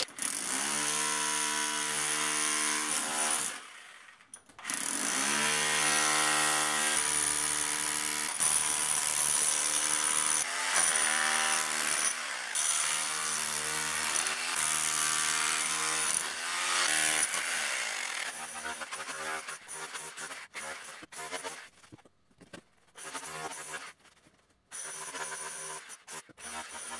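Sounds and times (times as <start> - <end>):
impact drill chipping concrete: 0.0 - 3.8, 4.6 - 21.6, 24.8 - 26.9.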